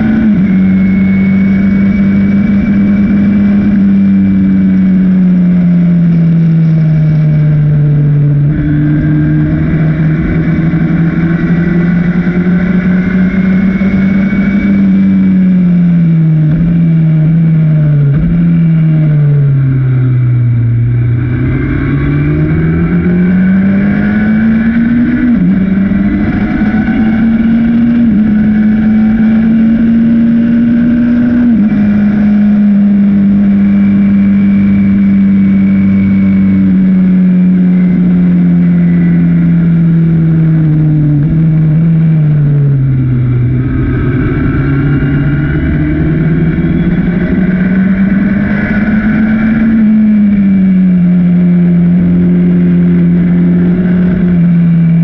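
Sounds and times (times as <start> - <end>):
racing car engine shifting gears: 0.0 - 55.0.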